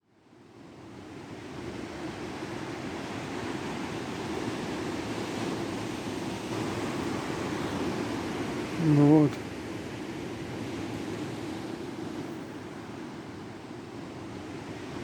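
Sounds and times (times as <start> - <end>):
wind: 0.0 - 15.0
sea surf: 0.2 - 15.0.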